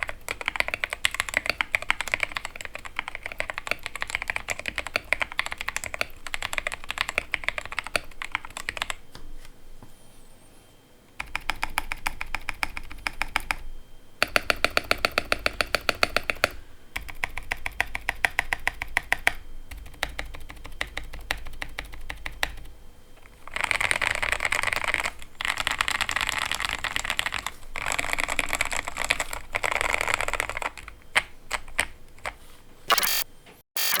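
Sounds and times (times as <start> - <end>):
mechanical keyboard typing: 0.0 - 9.0, 11.2 - 13.6, 14.2 - 33.2, 33.8 - 34.0.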